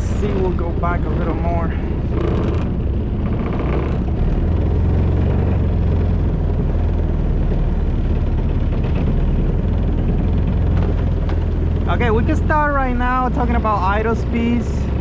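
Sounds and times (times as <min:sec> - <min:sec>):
kayak motor droning: 0:00.0 - 0:15.0.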